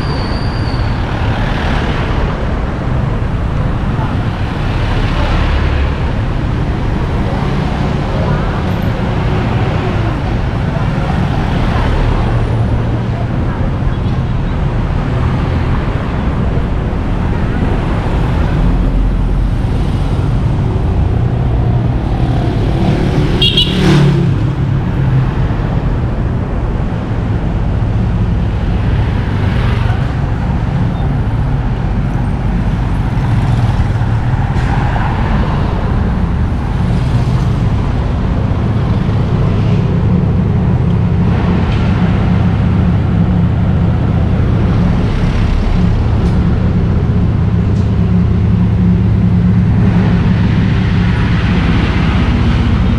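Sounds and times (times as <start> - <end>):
road traffic: 0.0 - 52.9.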